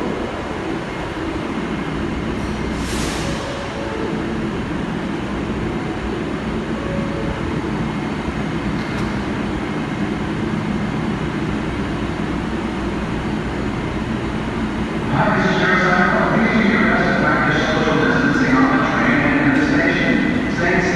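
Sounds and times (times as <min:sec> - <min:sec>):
subway train pulling out: 0:00.0 - 0:20.9.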